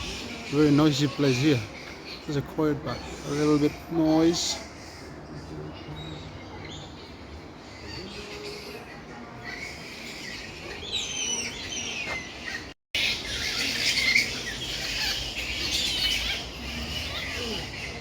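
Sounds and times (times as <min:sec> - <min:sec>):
birds calling and squawking: 0:00.0 - 0:18.0.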